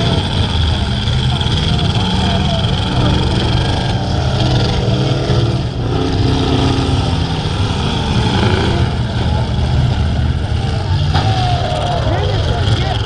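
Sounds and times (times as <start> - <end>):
racing truck engines: 0.0 - 13.0.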